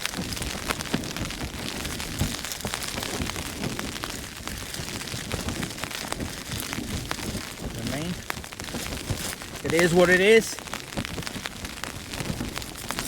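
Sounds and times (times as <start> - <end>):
rain hiss on tent: 0.0 - 13.0
raindrops tapping on fabric: 0.0 - 13.0
wind gusts flapping tent: 0.0 - 13.0.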